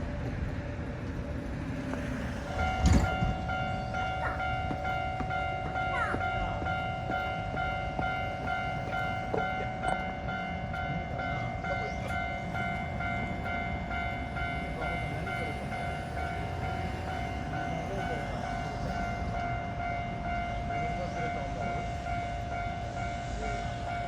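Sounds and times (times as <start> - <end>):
low rumble of rail traffic: 0.0 - 24.0
level crossing warning bell: 2.2 - 24.0.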